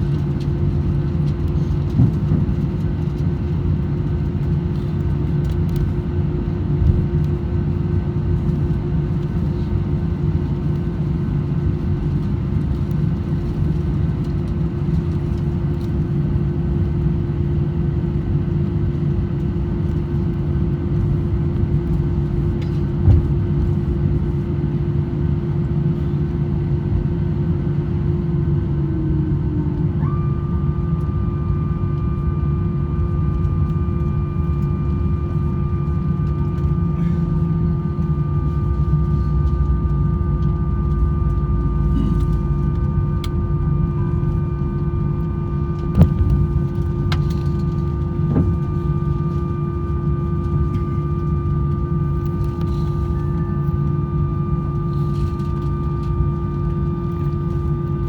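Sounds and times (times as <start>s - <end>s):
airplane cabin rumble and hum: 0.0s - 58.0s.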